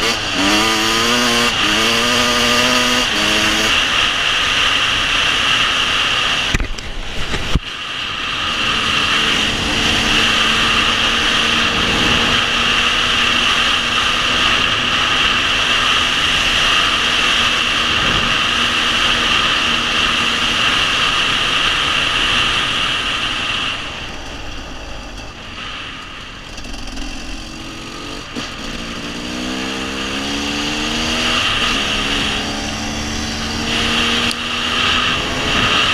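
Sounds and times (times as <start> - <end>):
dirt bike engine revving: 0.0 - 6.6, 7.2 - 23.6, 26.4 - 35.9
wind rushing: 5.4 - 35.9.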